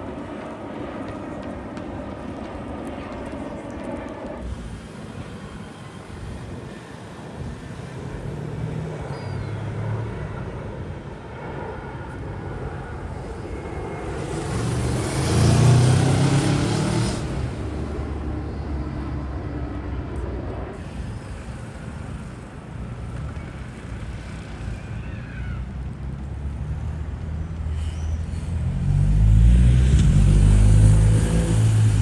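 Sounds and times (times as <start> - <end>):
aircraft engines passing: 0.0 - 32.0.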